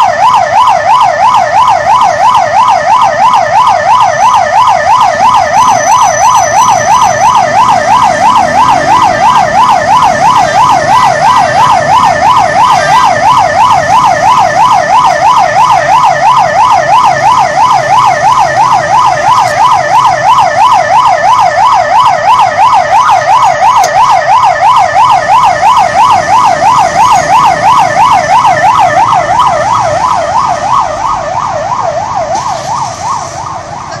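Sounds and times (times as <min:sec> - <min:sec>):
police siren wailing: 0:00.0 - 0:34.0.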